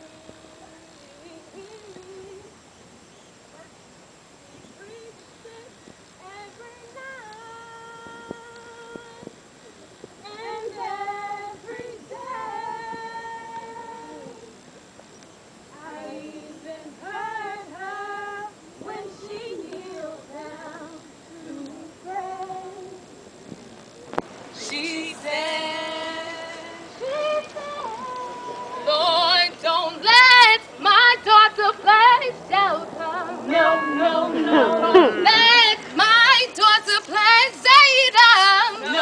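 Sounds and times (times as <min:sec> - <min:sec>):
women singing unaccompanied: 0:00.0 - 0:02.8, 0:04.4 - 0:09.4, 0:10.1 - 0:14.6, 0:15.7 - 0:23.3, 0:24.5 - 0:39.0.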